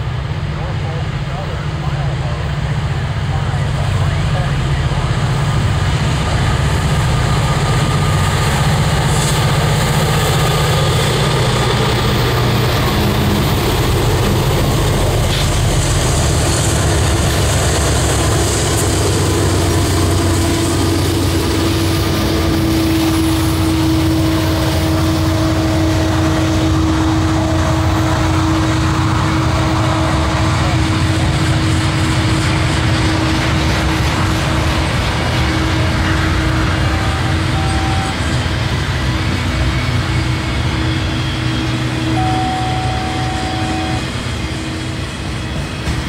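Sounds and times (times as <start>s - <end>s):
locomotive engines droning: 0.0s - 46.0s
steady whine: 0.0s - 46.0s
train cars rumbling on rails: 0.0s - 46.0s.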